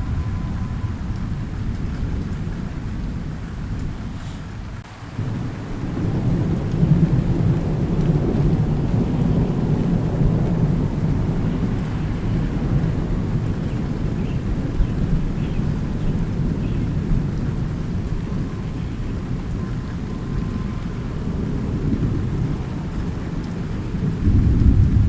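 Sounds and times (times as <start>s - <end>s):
rain hiss: 0.0s - 25.0s
rolling thunder: 0.0s - 25.0s.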